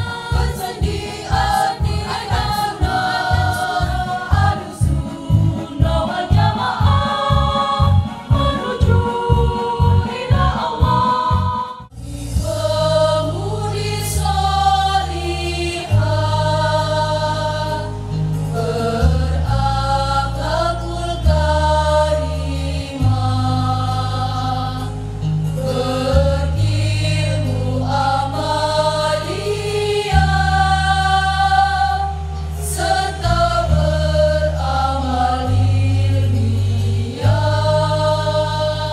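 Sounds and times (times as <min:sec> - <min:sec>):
bass accompaniment: 0:00.0 - 0:38.9
women's choir singing: 0:00.0 - 0:38.9.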